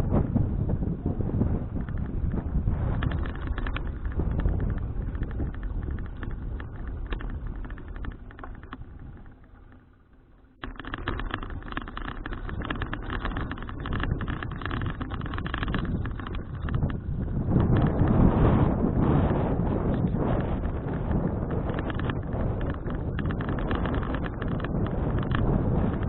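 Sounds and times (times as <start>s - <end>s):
wind buffeting microphone: 0.0s - 9.8s, 10.6s - 26.0s
bicycle clicks and rattles: 0.0s - 26.0s.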